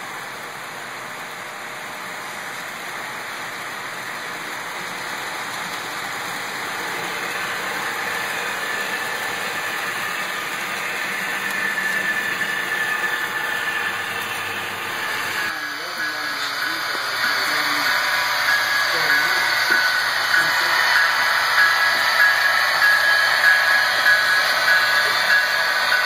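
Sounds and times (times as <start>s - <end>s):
high steady whine of locomotive: 0.0s - 26.0s
model train rolling on track: 0.0s - 26.0s.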